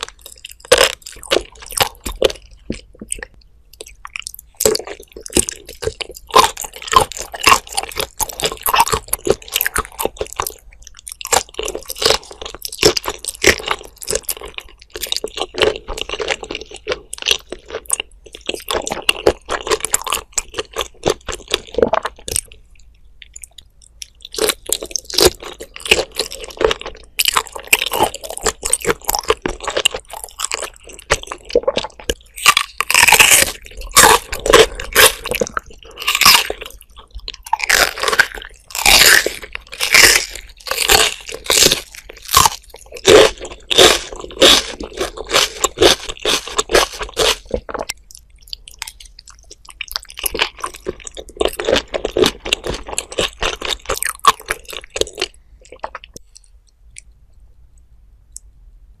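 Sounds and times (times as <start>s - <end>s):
close chewing of shrimp: 0.0s - 57.2s.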